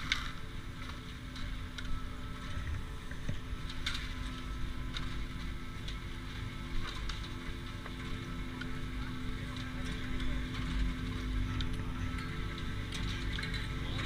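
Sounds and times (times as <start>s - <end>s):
chairlift machinery humming: 0.0s - 14.0s.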